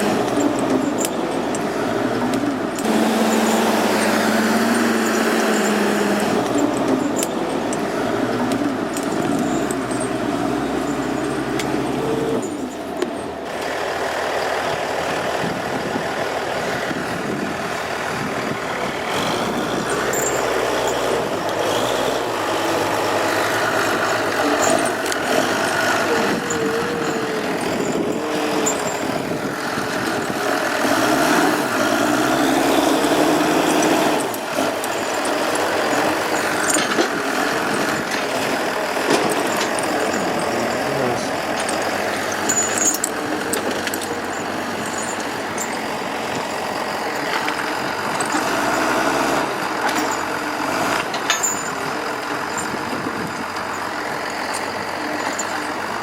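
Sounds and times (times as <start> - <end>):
diesel machinery running under load: 0.0 - 56.0.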